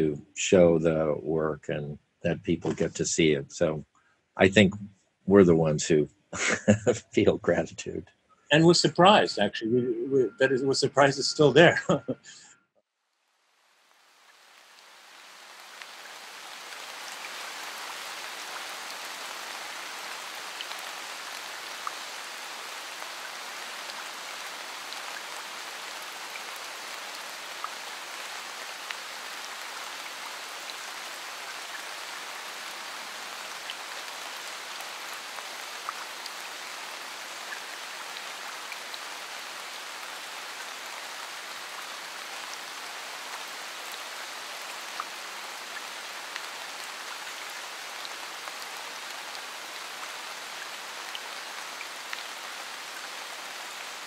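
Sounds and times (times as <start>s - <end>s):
rain hissing: 4.4s - 12.2s, 13.5s - 54.0s.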